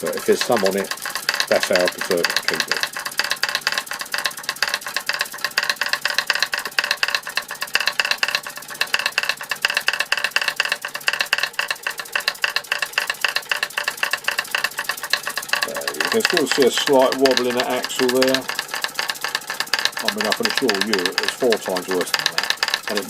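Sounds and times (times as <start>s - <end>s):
model hammers rattling: 0.0s - 23.0s
toy steam engine running: 0.0s - 23.0s.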